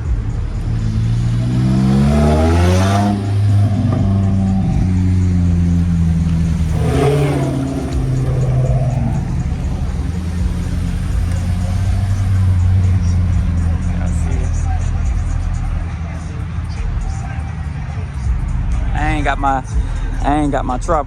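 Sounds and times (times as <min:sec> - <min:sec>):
car engine revving: 0:00.0 - 0:20.7.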